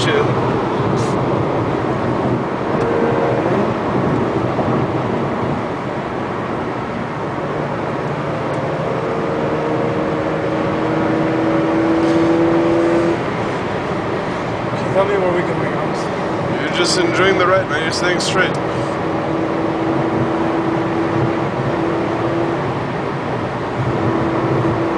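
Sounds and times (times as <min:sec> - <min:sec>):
car engine drone: 0:00.0 - 0:24.9
road and wind noise: 0:00.0 - 0:24.9.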